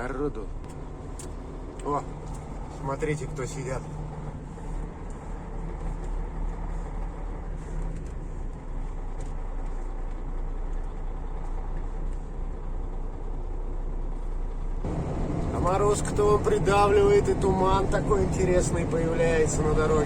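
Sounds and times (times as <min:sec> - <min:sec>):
road noise: 0:00.0 - 0:20.0
truck engine droning: 0:00.0 - 0:20.0.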